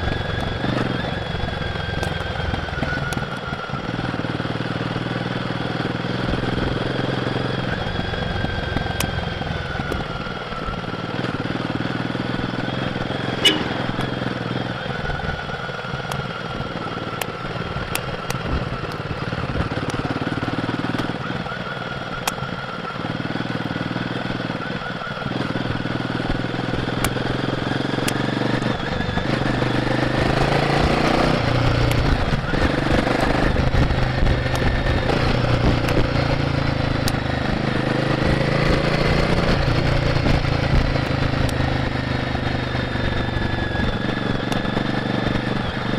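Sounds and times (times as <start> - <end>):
motorcycle engine running: 0.0 - 45.9
wind and road noise: 0.0 - 45.9.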